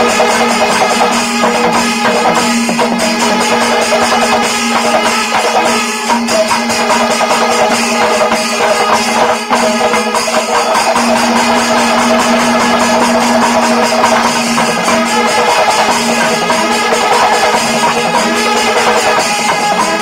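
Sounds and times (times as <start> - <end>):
percussion beat: 0.0 - 20.0.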